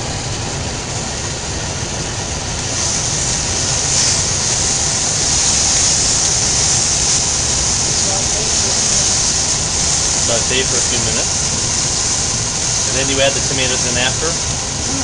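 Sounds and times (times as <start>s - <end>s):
onion sizzling in a pot: 0.0s - 15.0s.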